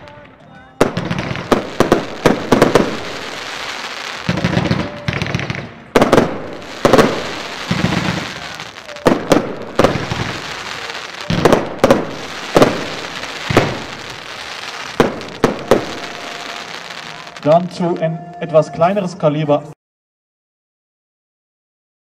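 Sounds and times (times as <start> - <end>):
firework bangs: 0.0 - 18.0.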